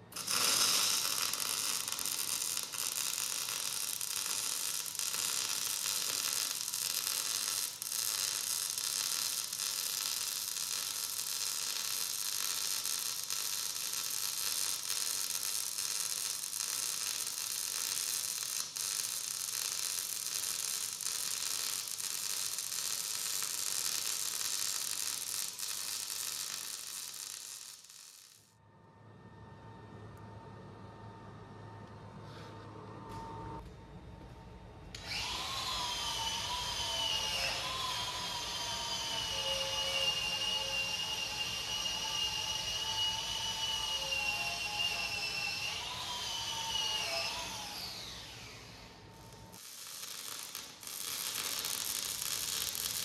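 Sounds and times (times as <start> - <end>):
welding arc crackling sizzle: 0.0 - 28.6, 35.1 - 53.0.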